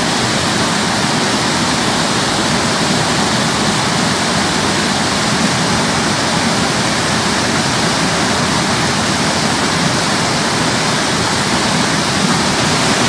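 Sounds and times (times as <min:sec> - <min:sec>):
waterfall pouring into a pool: 0:00.0 - 0:13.0.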